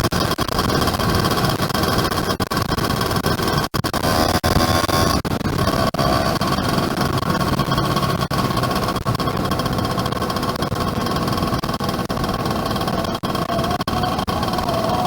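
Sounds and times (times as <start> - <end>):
motorcycle engine running: 2.8 - 15.0.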